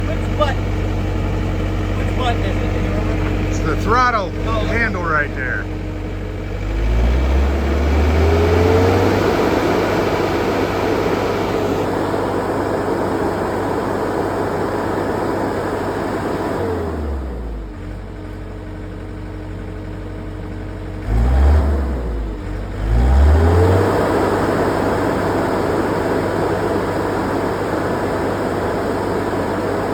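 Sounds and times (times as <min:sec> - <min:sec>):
diesel engine revving: 0:00.0 - 0:19.8, 0:20.4 - 0:29.9.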